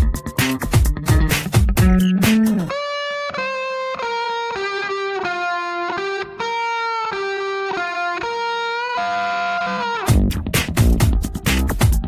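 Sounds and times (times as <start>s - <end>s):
slow lead guitar melody: 0.0s - 12.0s.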